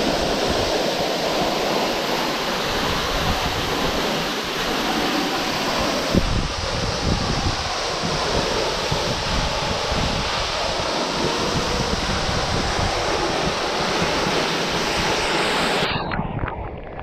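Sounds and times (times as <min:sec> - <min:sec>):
waterfall rushing: 0:00.0 - 0:16.1.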